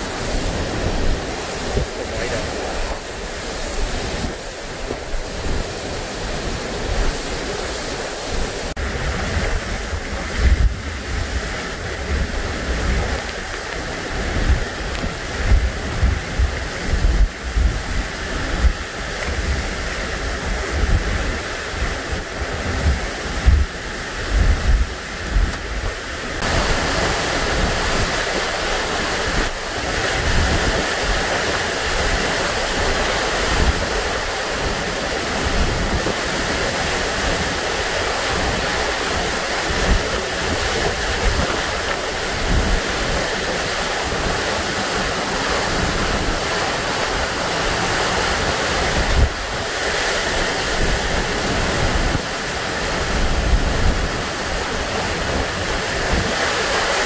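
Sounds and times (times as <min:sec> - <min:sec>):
roar of wind and rain: 0:00.0 - 0:57.0
wind gusts buffeting microphone: 0:00.0 - 0:57.0.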